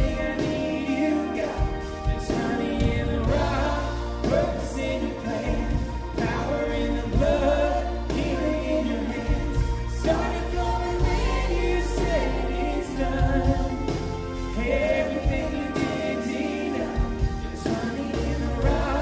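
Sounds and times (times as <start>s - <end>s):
bass guitar: 0.0s - 19.0s
drum and cymbal hits: 0.0s - 19.0s
electric guitar: 0.0s - 19.0s
people singing: 0.0s - 19.0s.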